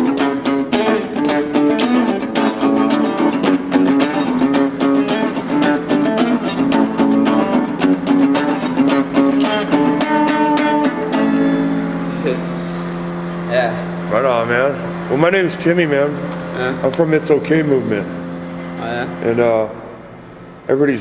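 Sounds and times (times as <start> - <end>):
acoustic guitar strumming: 0.0 - 20.7.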